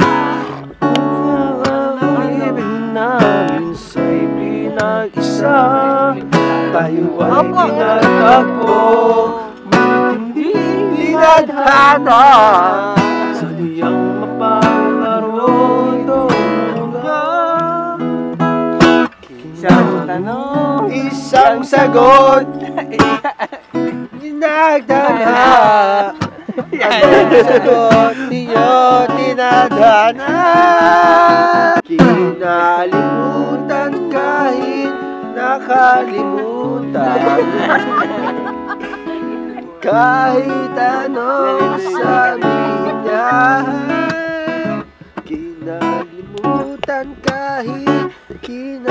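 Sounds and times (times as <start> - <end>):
person singing: 0.0 - 18.0, 19.3 - 23.2, 24.2 - 48.9
acoustic guitar strumming chords: 0.0 - 48.9.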